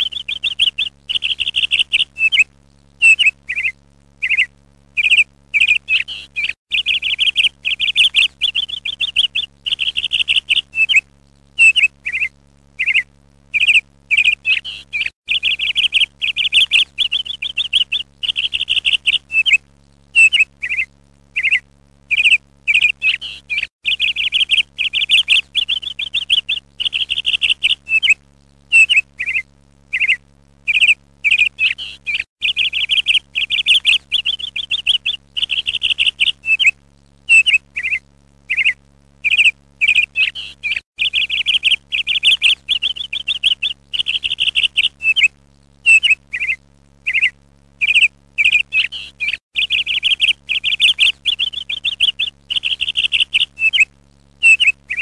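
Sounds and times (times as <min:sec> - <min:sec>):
small bird chirping and trilling: 0:00.0 - 0:55.0.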